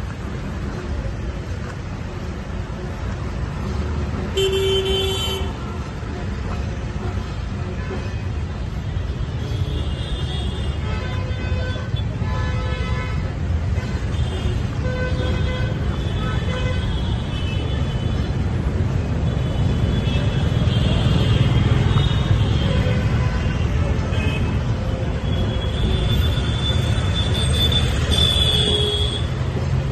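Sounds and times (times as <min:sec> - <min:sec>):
traffic rumble: 0:00.0 - 0:29.9.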